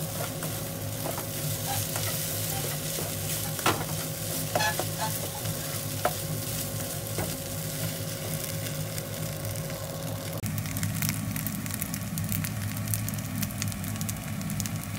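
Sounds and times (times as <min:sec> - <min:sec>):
rice sizzling in frying pan: 0:00.0 - 0:14.9.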